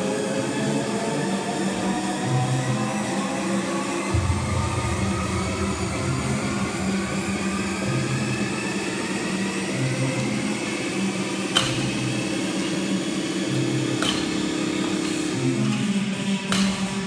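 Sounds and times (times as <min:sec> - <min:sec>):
background music with bass line: 0:00.0 - 0:17.0
noisy hum: 0:00.0 - 0:17.0.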